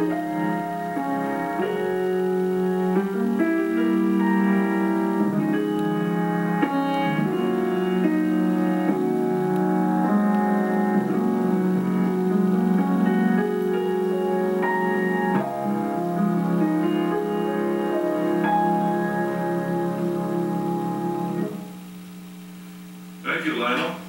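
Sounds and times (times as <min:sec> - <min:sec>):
grand piano chords: 0:00.0 - 0:23.3.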